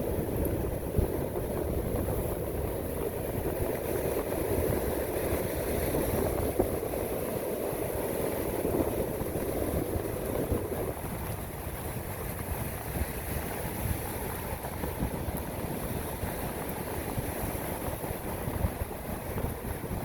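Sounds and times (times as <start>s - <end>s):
ocean surf: 0.0s - 20.0s
wind on microphone: 0.0s - 20.0s.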